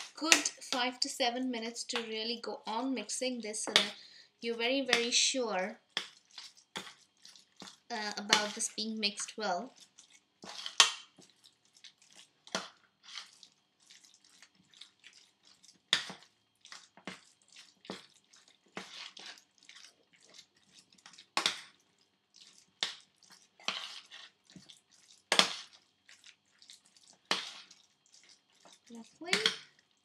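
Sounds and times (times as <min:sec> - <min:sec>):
wet squelches of meat mixing: 0:00.0 - 0:30.0.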